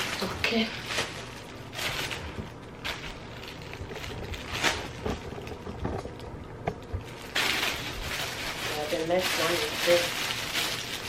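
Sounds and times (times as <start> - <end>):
clothing and packaging rustling: 0.0 - 11.0.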